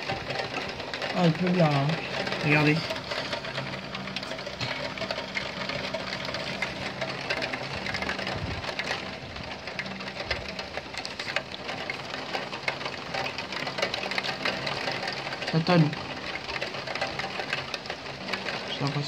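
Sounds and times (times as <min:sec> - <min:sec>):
heavy rain pattering on roof: 0:00.0 - 0:19.0.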